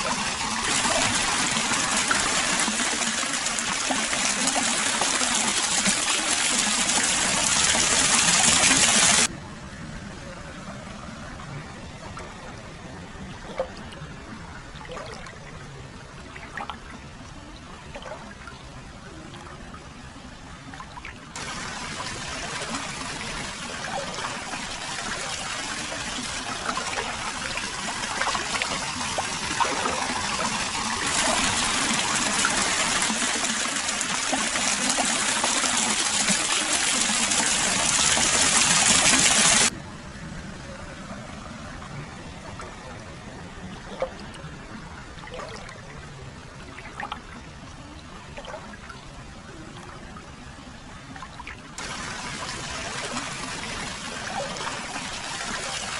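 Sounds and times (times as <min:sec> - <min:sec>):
water flowing and splashing: 0:00.0 - 0:55.9.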